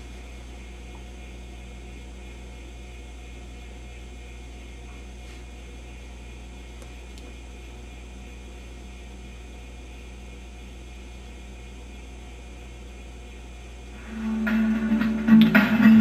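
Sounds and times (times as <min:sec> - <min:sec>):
mains hum with hiss: 0:00.0 - 0:16.0.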